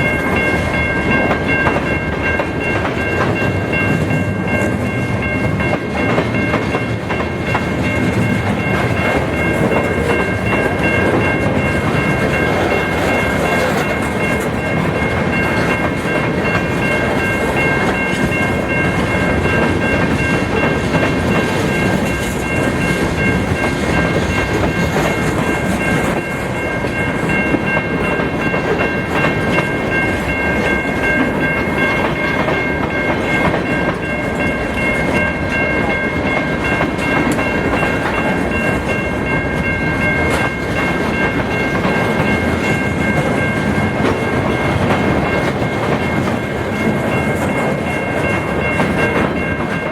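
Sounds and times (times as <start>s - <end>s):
high ringing tone: 0.0s - 49.9s
train wheels clattering on rails: 0.0s - 49.9s.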